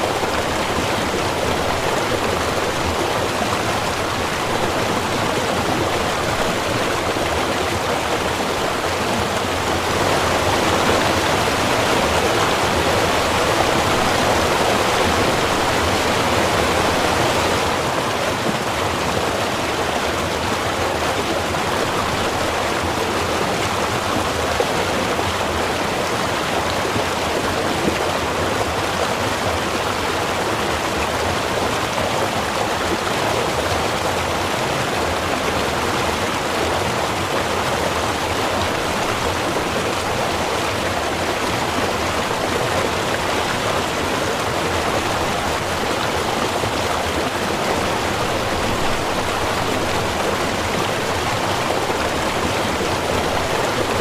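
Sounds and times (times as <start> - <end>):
river water babbling: 0.0 - 54.0.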